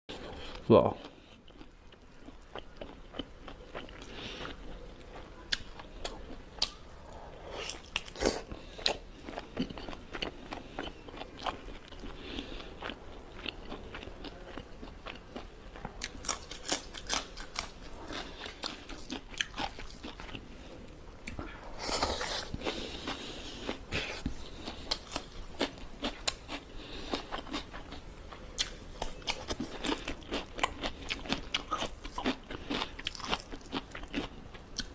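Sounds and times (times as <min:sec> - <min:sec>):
person chewing food: 0:00.1 - 0:34.9.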